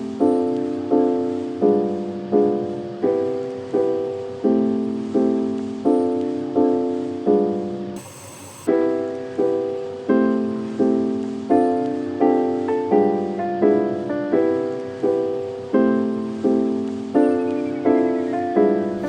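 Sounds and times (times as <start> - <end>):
soft piano chords: 0.0 - 8.0, 8.7 - 19.0.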